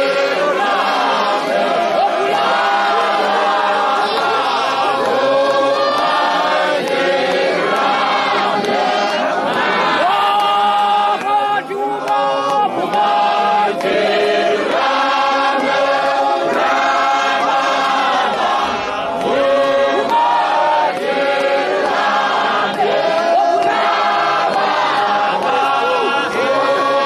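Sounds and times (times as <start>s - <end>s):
congregation singing a hymn: 0.0s - 27.0s.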